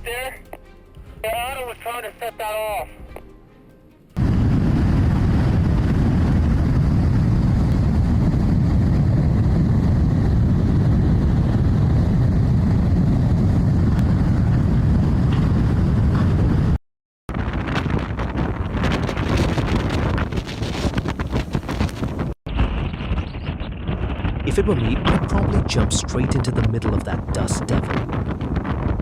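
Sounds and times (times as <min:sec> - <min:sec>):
wind buffeting microphone: 0:04.2 - 0:29.0.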